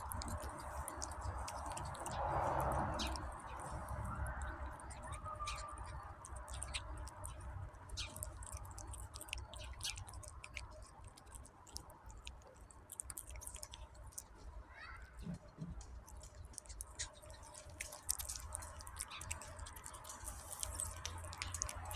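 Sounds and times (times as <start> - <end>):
kitten chewing food: 0.0 - 21.9.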